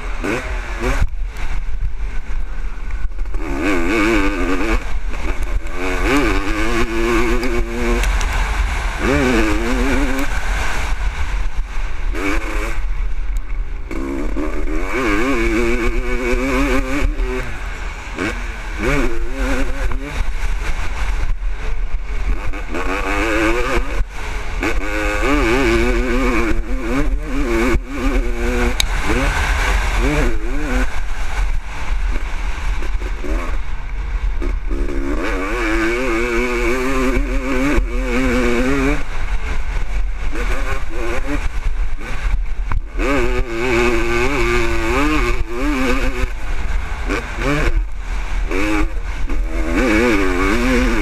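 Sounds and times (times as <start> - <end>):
low rumble: 0.0 - 51.0
two-stroke engine revving: 0.0 - 51.0.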